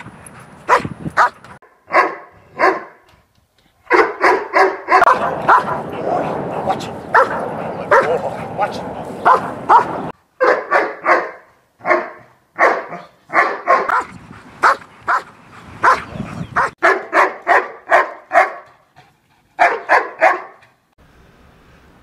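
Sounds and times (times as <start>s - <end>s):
dog barking: 0.7s - 3.0s, 3.9s - 18.8s, 19.6s - 20.7s.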